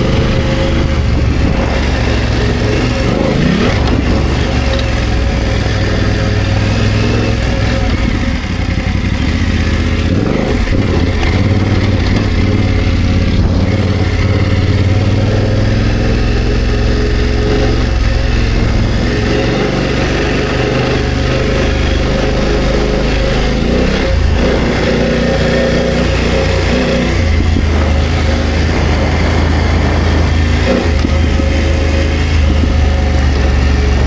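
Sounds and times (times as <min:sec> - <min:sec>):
motorcycle engine rumbling: 0:00.0 - 0:34.0.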